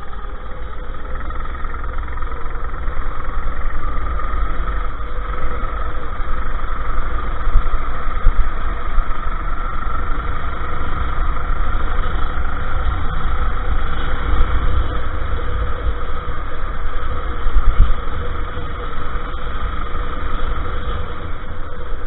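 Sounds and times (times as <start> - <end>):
go-kart engine running: 0.0 - 22.0
heavy low rumble: 0.0 - 22.0.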